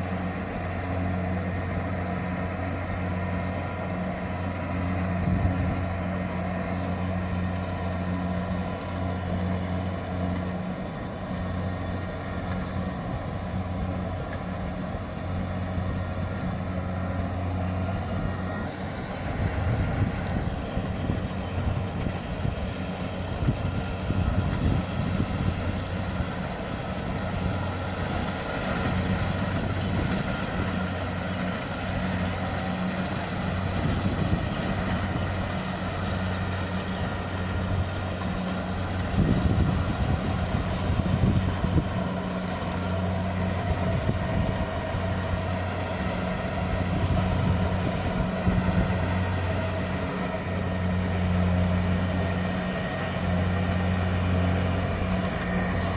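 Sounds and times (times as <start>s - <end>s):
combine harvester engine hum: 0.0s - 55.9s.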